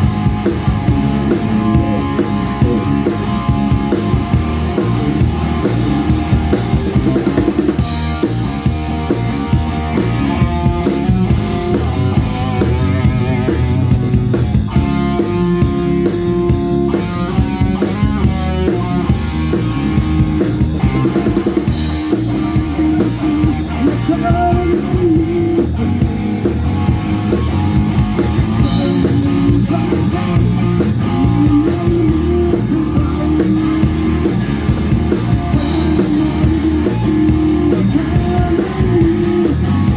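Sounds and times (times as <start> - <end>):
live rock band: 0.0 - 39.9.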